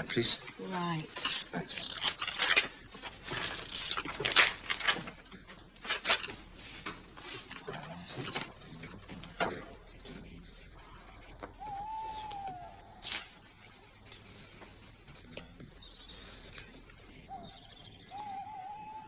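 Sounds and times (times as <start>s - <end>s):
book pages rustling: 0.4s - 18.5s.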